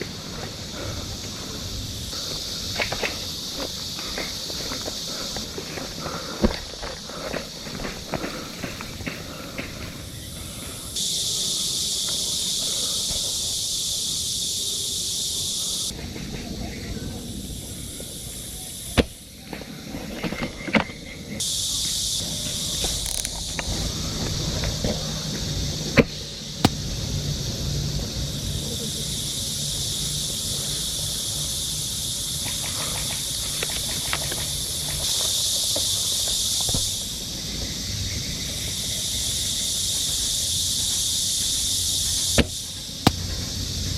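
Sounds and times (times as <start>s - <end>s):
insect chorus buzzing: 0.0s - 43.9s.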